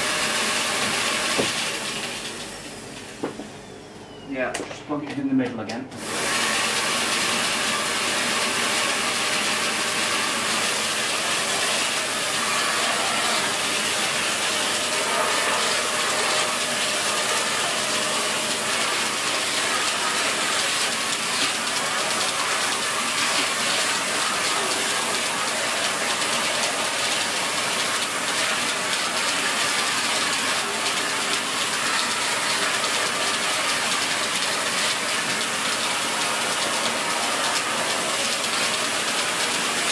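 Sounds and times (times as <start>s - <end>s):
vacuum cleaner running: 0.0s - 4.7s, 5.9s - 39.9s.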